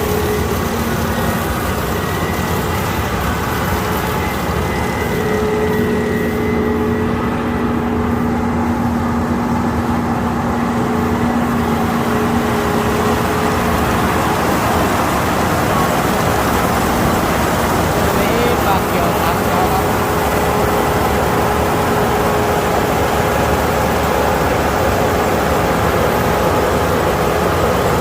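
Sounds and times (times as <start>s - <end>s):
combine harvester running: 0.0s - 28.0s
machine whine: 0.0s - 28.0s.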